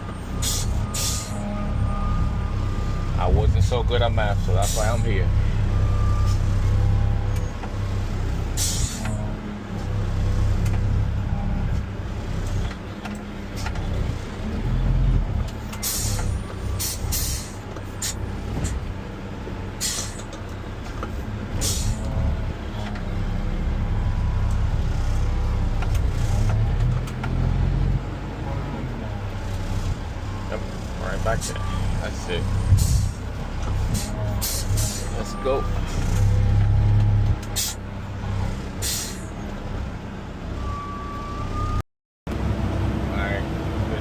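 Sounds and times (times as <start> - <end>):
garbage truck diesel engine: 0.0 - 44.0.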